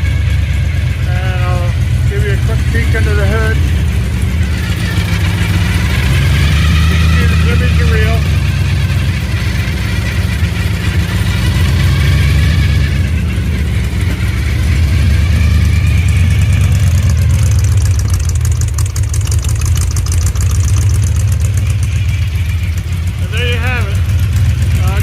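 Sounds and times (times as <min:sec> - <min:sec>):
car engine idling loudly: 0:00.0 - 0:25.0
fast high ticking: 0:00.0 - 0:25.0.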